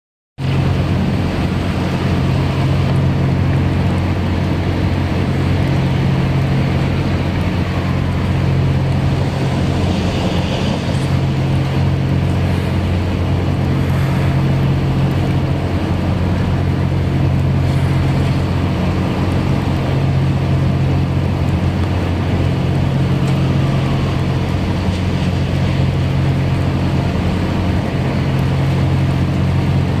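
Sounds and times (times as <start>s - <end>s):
low mechanical hum: 0.4s - 30.0s
rain on wet pavement: 0.4s - 30.0s.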